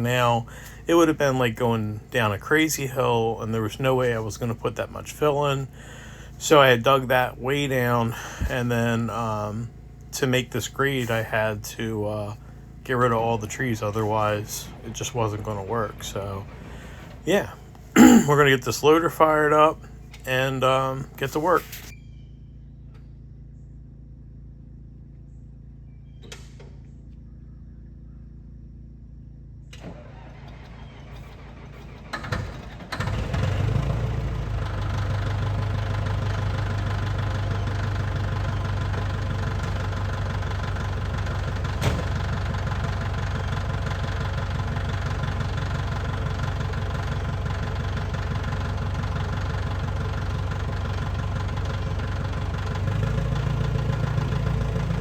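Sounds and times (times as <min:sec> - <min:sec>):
engine cranking and idling: 0:00.0 - 0:55.0.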